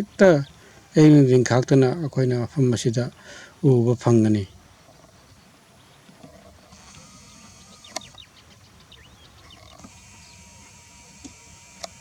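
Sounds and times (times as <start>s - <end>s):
steady high hiss: 0.0s - 12.0s
wetland birds chirping: 0.0s - 12.0s.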